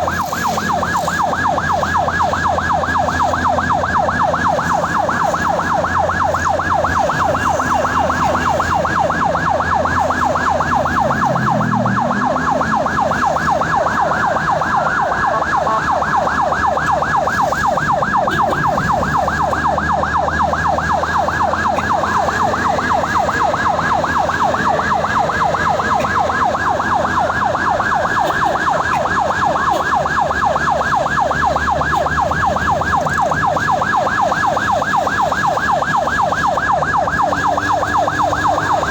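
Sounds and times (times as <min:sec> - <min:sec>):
ambulance siren yelping: 0:00.0 - 0:38.9
engine and road rumble: 0:00.0 - 0:38.9.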